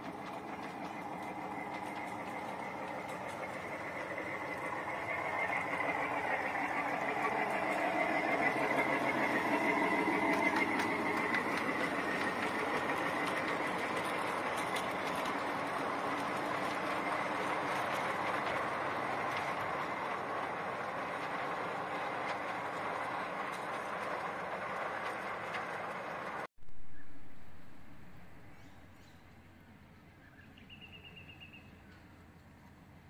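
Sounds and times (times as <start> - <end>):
rail joint clicks: 0.0 - 33.0
train wheels rumbling on rail: 0.0 - 33.0.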